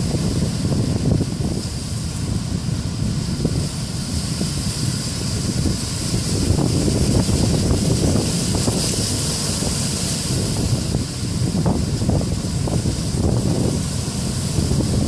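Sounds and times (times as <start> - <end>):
heavy ocean surf: 0.0 - 15.0
wind buffeting microphone: 0.0 - 15.0.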